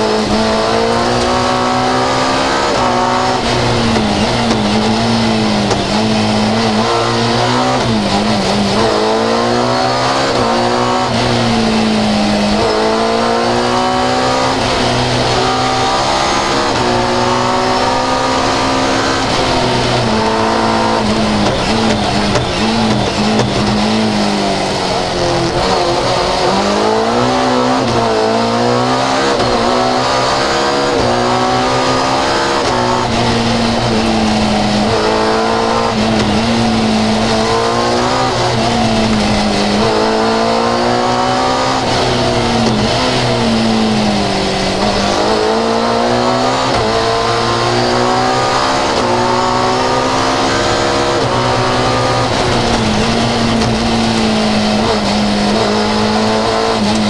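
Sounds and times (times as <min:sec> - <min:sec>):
rally car engine at full throttle: 0:00.0 - 0:57.0.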